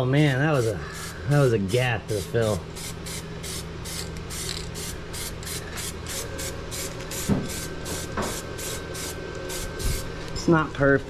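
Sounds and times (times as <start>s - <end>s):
aerosol spray can hissing: 0.5s - 10.1s.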